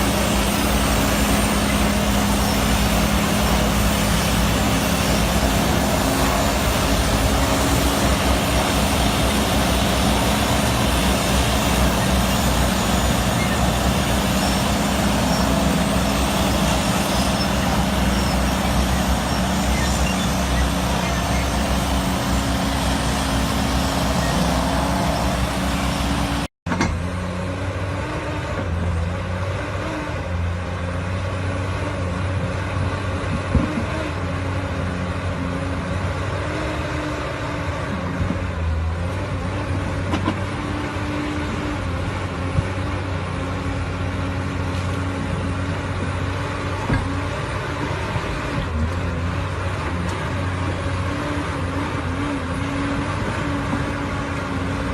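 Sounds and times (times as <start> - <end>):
diesel engines running: 0.0 - 54.9.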